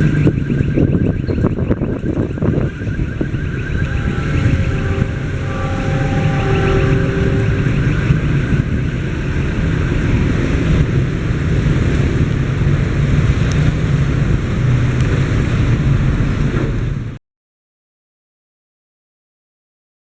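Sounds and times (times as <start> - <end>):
vehicles passing with low rumble: 0.0 - 17.2.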